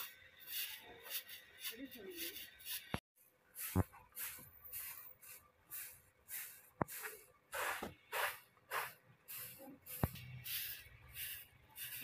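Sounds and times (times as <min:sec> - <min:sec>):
broom sweeping brick floor: 0:00.0 - 0:12.0.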